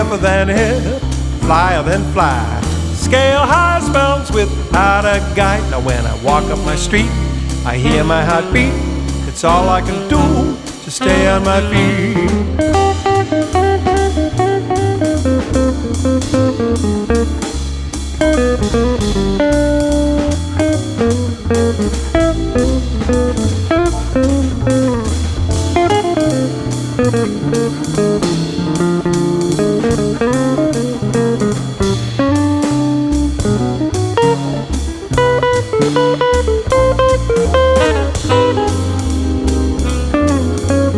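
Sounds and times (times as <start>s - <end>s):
bluesy rock guitar music: 0.0s - 40.9s.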